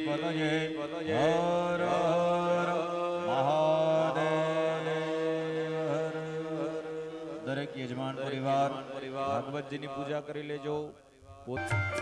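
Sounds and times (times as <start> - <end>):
person chanting in long notes: 0.0 - 9.9.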